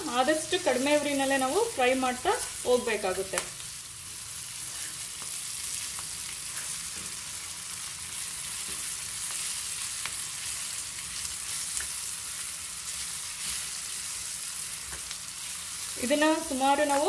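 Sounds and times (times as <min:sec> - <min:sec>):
chillies sizzling in oil: 0:00.0 - 0:17.0.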